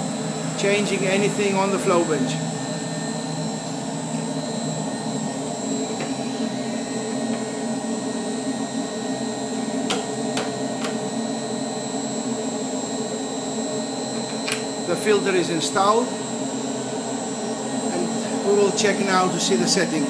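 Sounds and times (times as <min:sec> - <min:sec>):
blower motor drone with whine: 0:00.0 - 0:20.0.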